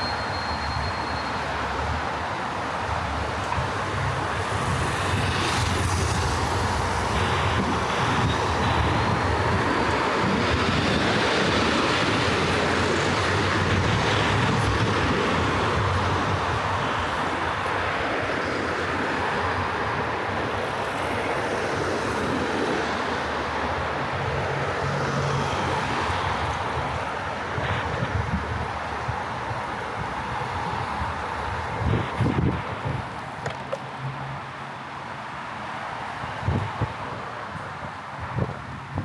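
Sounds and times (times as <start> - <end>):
traffic rumble on city street: 0.0 - 39.0.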